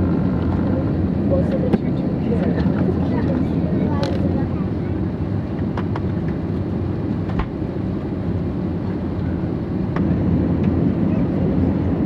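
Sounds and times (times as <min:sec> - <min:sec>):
aircraft cabin rumble and hiss: 0:00.0 - 0:12.0.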